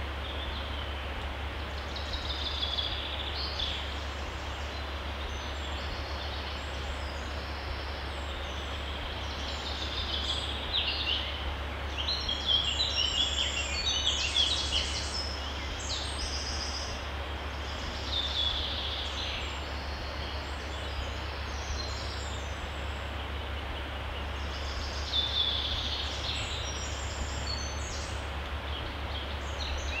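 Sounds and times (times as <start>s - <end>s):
songbirds chirping and trilling: 0.0s - 30.0s
stream rushing: 0.0s - 30.0s.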